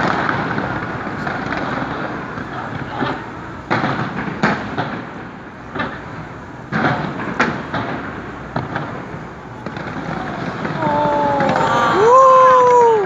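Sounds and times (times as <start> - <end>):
background rumble: 0.0 - 13.0
fireworks bangs: 0.0 - 13.0.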